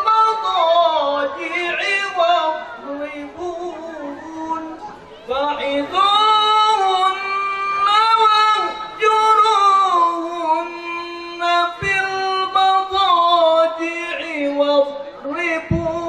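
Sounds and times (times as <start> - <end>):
man chanting recitation: 0.0 - 16.0.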